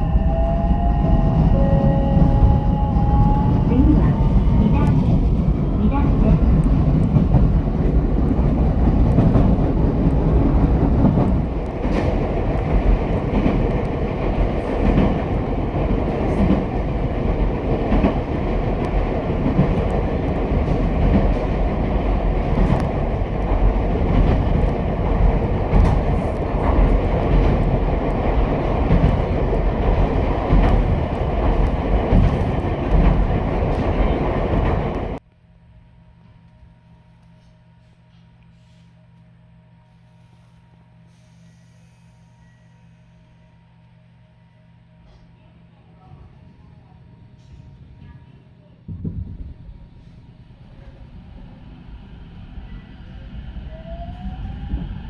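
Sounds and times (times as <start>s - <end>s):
train rolling rumble: 0.0s - 35.2s, 44.8s - 55.0s.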